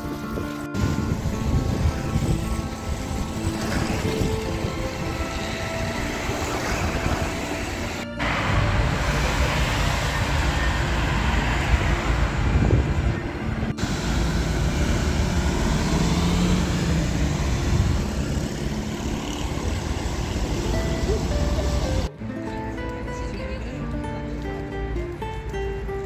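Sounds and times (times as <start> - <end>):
traffic on wet road: 0.0 - 26.0.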